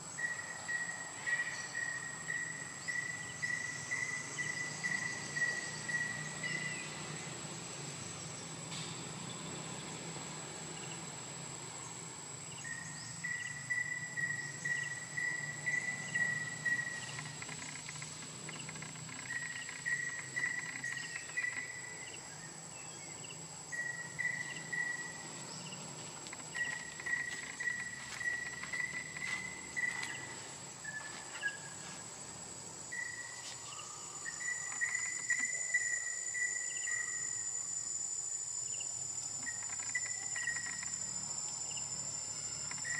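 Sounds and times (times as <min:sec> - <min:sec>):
insects chirping trills: 0:00.0 - 0:42.9
insects high-pitched whine: 0:00.0 - 0:42.9.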